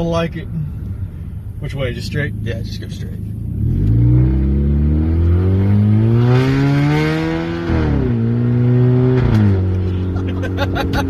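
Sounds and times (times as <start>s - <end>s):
car engine accelerating: 0.1s - 11.0s.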